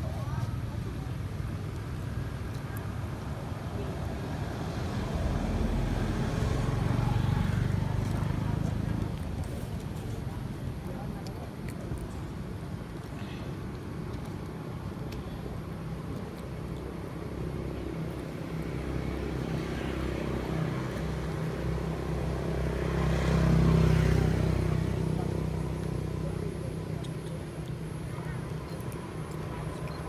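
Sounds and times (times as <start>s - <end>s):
vehicle engine hum passing: 0.0s - 30.0s.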